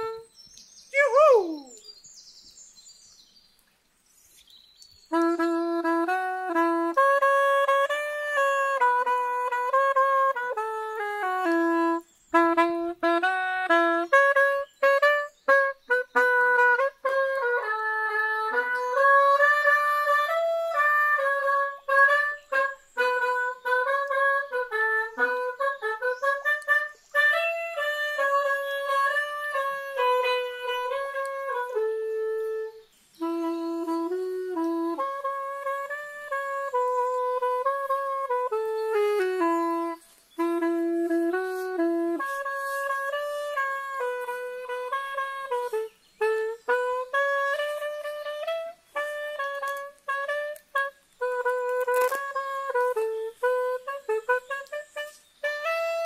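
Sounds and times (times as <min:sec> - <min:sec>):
wind instrument melody: 0:00.0 - 0:01.8, 0:04.3 - 0:56.0.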